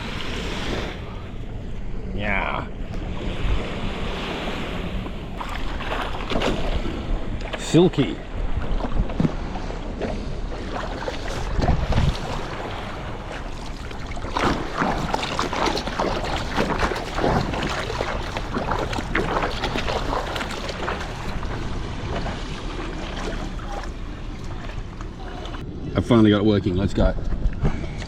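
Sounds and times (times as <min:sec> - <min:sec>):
water splashing and lapping: 0:00.0 - 0:01.6, 0:02.9 - 0:25.7
wind rumble on microphone: 0:00.0 - 0:28.0.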